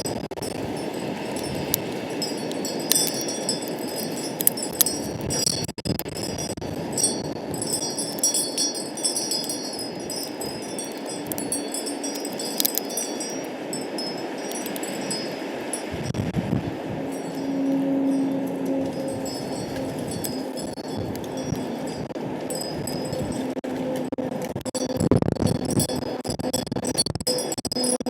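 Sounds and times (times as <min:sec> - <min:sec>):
wind rushing: 0:00.2 - 0:23.6
wind chimes tinkling: 0:00.4 - 0:24.1, 0:24.7 - 0:26.2, 0:27.3 - 0:28.0.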